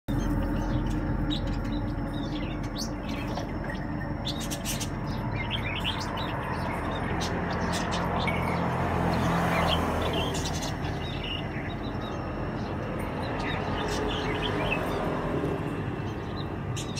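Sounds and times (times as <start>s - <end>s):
steady background noise: 0.1s - 16.9s.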